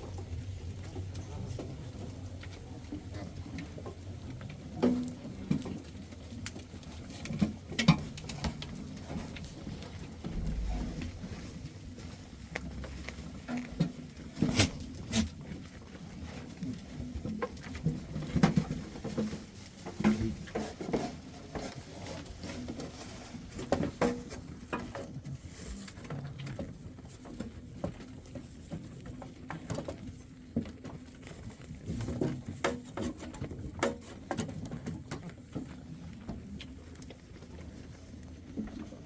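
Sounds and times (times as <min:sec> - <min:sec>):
goat hooves pattering: 0:00.0 - 0:39.0.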